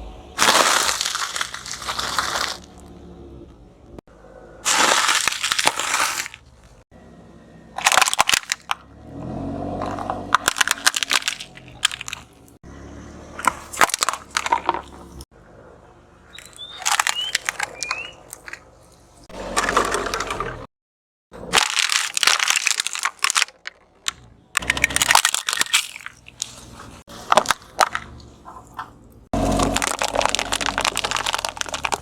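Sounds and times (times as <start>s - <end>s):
objects crunching under tyre: 0.0s - 4.0s, 4.6s - 6.9s, 7.7s - 15.3s, 16.3s - 20.7s, 21.4s - 32.0s.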